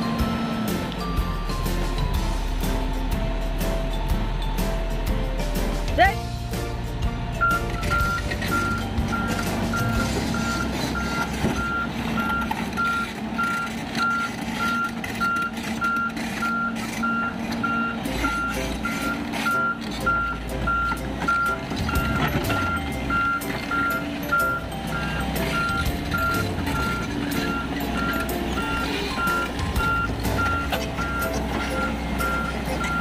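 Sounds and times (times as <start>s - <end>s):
excavator travel alarm beeping: 0.0s - 4.8s, 7.4s - 33.0s
diesel engine running: 0.0s - 33.0s.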